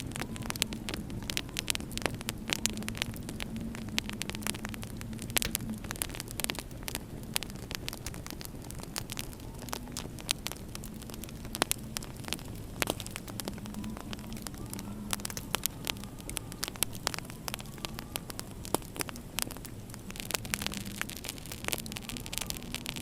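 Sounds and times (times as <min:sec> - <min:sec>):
low winter wind rumble: 0:00.0 - 0:23.0
wood fire crackling and popping: 0:00.0 - 0:23.0.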